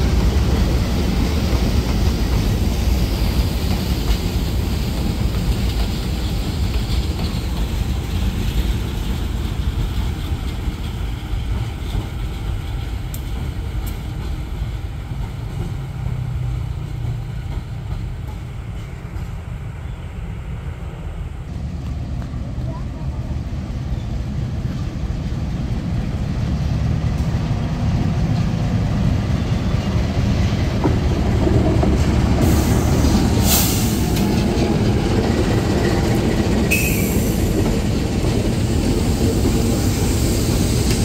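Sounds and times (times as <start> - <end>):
train heavy low rumble: 0.0 - 41.0
train hiss: 0.0 - 41.0.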